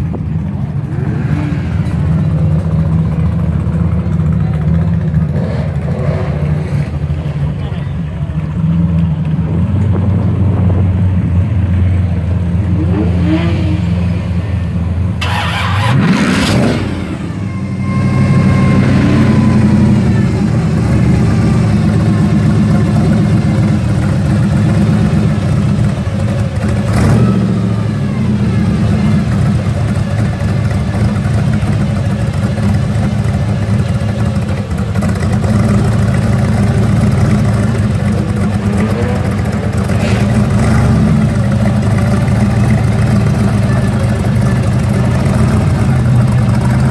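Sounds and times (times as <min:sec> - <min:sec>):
van engine idling and revving: 0:00.0 - 0:46.9.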